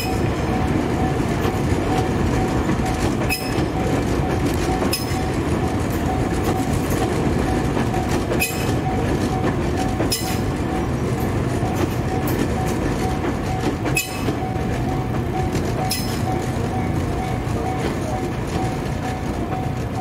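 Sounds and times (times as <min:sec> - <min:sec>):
train rumbling past: 0:00.0 - 0:20.0
wheels clacking over rail joints: 0:00.0 - 0:20.0.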